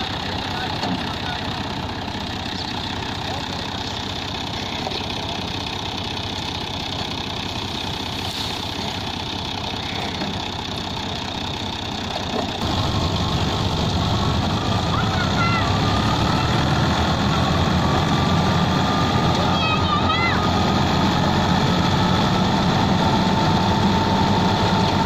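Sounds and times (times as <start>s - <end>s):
tractor engine and thresher din: 0.0s - 25.0s.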